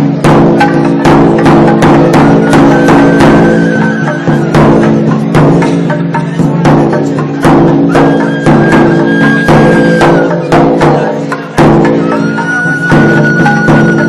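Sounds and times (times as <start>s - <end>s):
drum strikes: 0.0s - 14.0s
high held tone: 0.6s - 5.3s, 7.0s - 14.0s.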